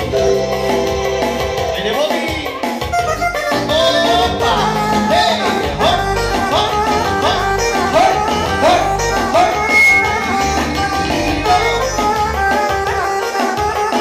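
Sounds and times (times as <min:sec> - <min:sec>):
loud dance music: 0:00.1 - 0:13.0.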